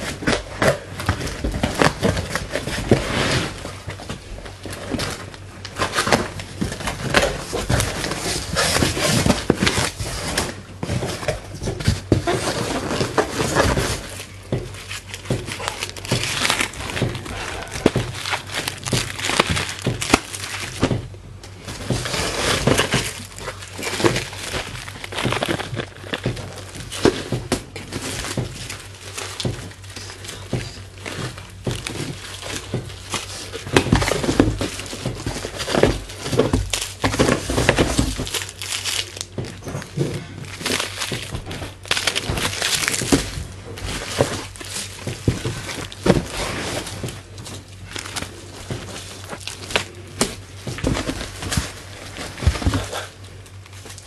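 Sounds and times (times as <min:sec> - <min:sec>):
faint steady hum: 0:00.0 - 0:54.0
items knocking and clattering: 0:00.0 - 0:54.0
packaging crinkling and rustling: 0:00.0 - 0:54.0.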